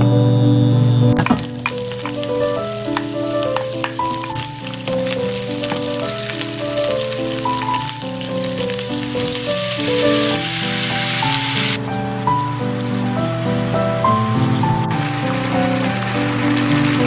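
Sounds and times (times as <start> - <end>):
food sizzling in oil: 1.3 - 13.7, 14.4 - 17.0.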